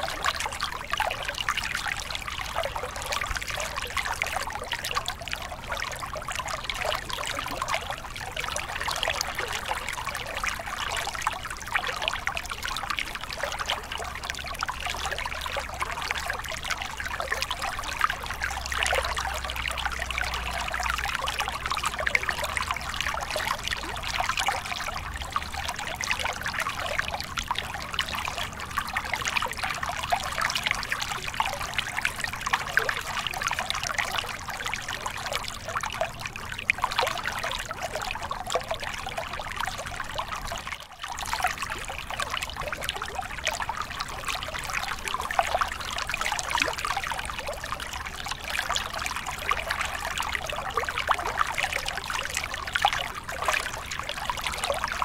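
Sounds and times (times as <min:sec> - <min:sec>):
stream water splashing over rocks: 0:00.0 - 0:55.0.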